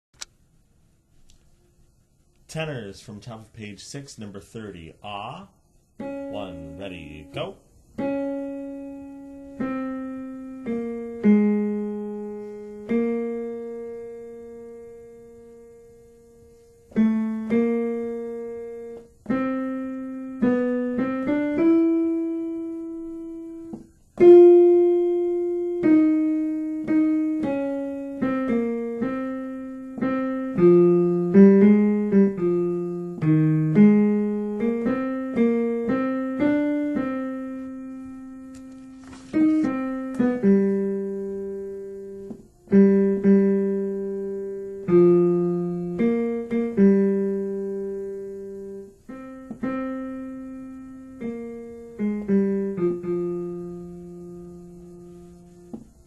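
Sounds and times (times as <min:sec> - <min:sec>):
piano playing: 0:06.0 - 0:56.0.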